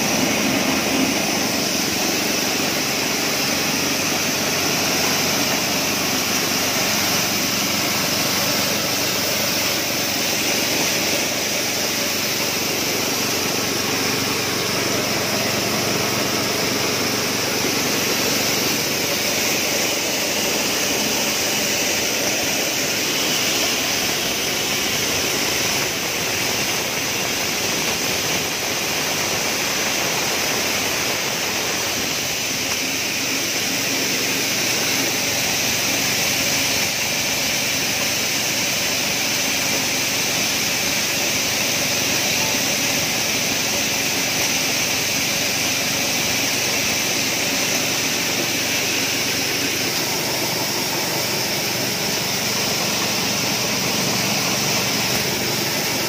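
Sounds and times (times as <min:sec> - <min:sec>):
hulling mill rushing: 0:00.0 - 0:56.0
petrol engine running: 0:00.0 - 0:56.0.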